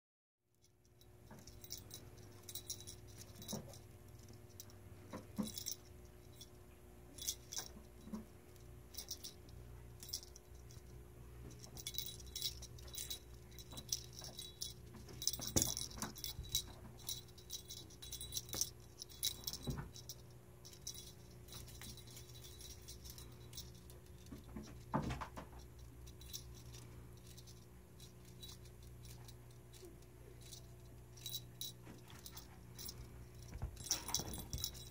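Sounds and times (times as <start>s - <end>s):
faint steady hum: 0.5s - 34.9s
toy rattling and jingling: 0.6s - 34.9s.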